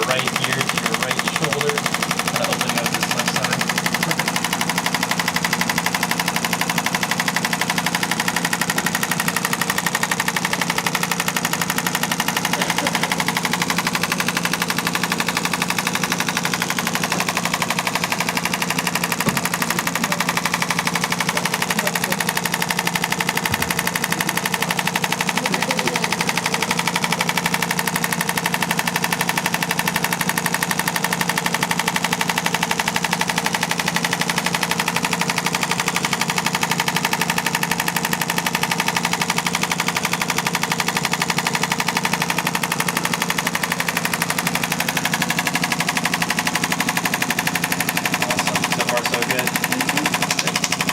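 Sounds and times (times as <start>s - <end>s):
rapid sharp taps: 0.0s - 50.9s
steady machine hum: 0.0s - 50.9s.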